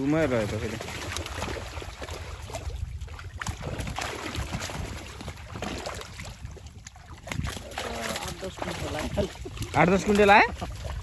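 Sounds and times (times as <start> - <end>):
water splashing and sloshing: 0.0 - 11.0
wind rumble on microphone: 0.0 - 11.0.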